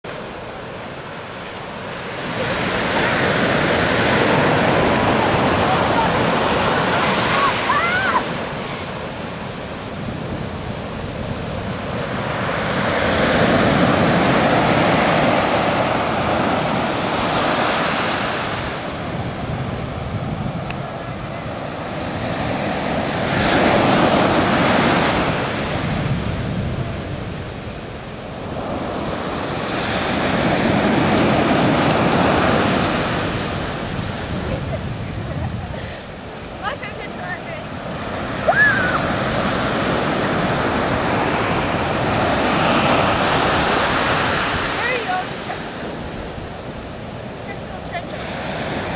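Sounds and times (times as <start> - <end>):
ocean waves breaking on beach: 0.1 - 48.9.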